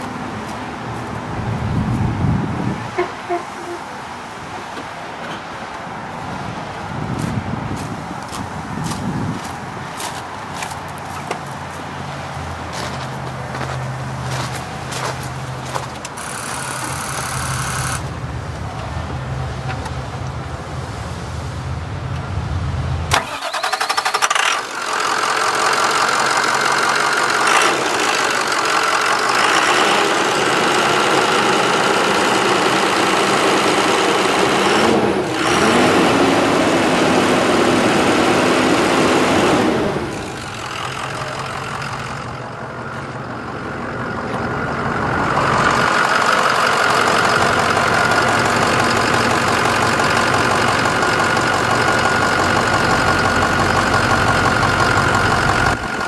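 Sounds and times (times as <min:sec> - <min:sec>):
diesel engine idling: 0:05.6 - 0:20.8, 0:21.7 - 0:56.0.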